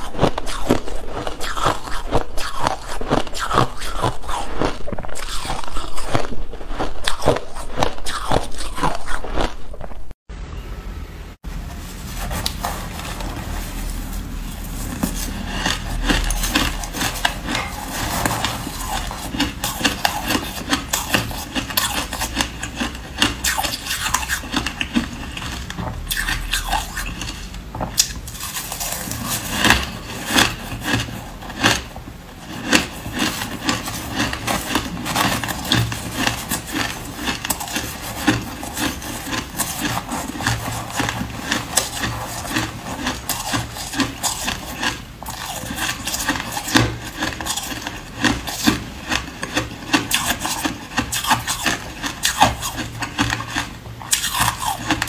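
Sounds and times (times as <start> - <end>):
spoon scraping shaved ice: 0.0 - 9.8, 11.5 - 55.0.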